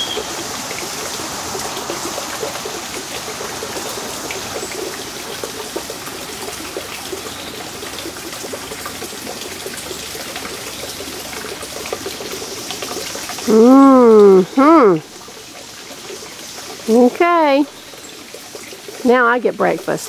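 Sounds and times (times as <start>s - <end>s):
small splashes and ticks: 0.0s - 13.5s, 15.0s - 20.0s
trickle of running water: 0.0s - 20.0s.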